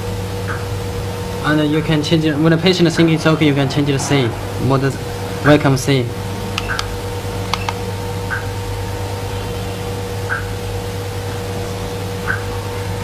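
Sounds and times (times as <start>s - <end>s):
machine humming and hissing: 0.0s - 13.0s.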